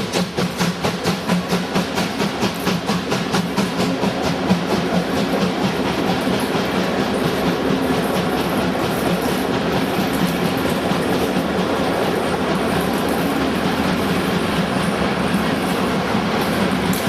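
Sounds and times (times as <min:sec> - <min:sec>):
train rolling rattle: 0:00.0 - 0:17.0.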